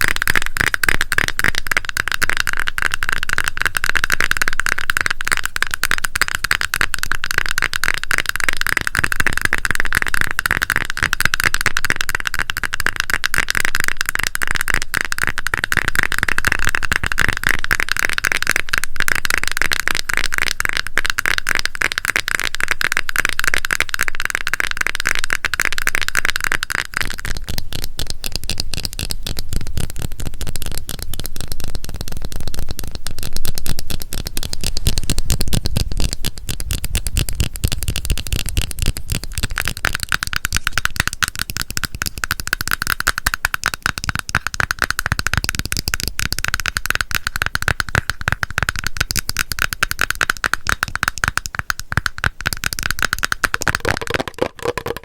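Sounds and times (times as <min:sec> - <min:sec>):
fingers tapping cream container: 0:00.0 - 0:55.0.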